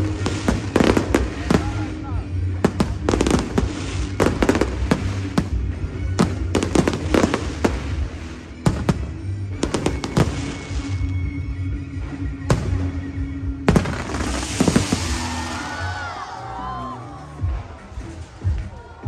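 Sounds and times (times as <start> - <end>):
fireworks bangs and crackles: 0.0 - 16.2
music: 0.0 - 19.0.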